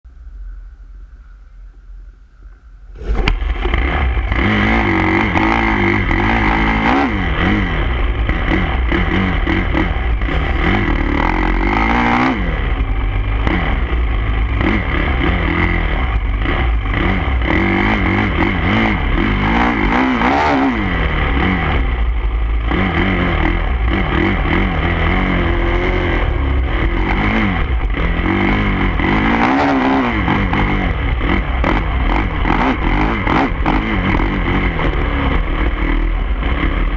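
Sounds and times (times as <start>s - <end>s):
dirt bike engine revving: 3.0s - 36.9s.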